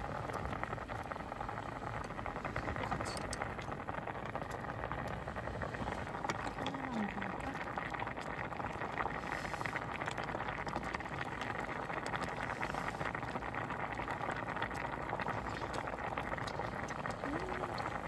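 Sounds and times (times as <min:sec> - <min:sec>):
soup boiling in a pot: 0:00.0 - 0:18.0.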